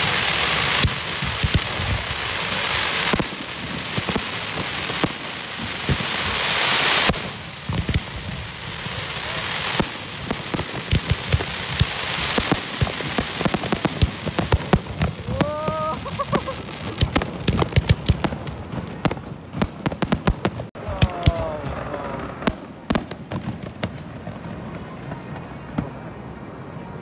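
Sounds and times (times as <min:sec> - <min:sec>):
firework cracks: 0:00.0 - 0:24.2
fireworks crackling: 0:00.0 - 0:26.6.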